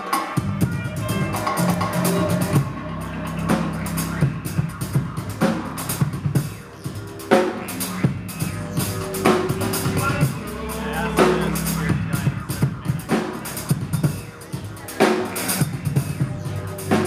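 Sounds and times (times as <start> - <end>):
low bass notes: 0.4 - 17.0.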